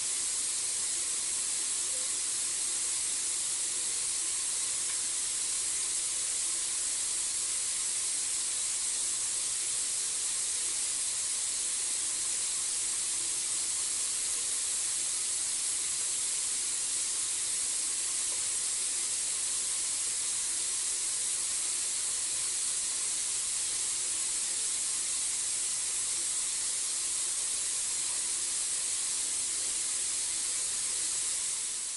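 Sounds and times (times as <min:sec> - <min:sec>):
high-pitched hiss: 0:00.0 - 0:31.9.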